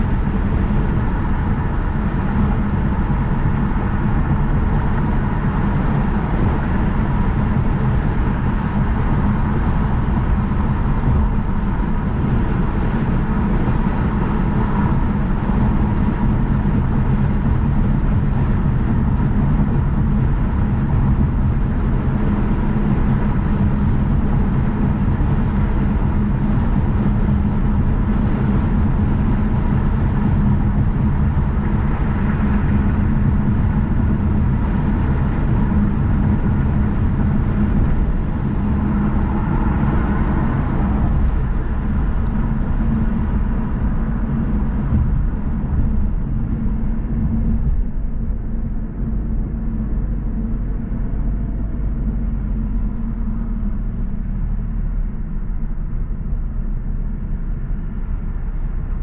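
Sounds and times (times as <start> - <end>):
tyres and engine rumbling: 0.0 - 59.0.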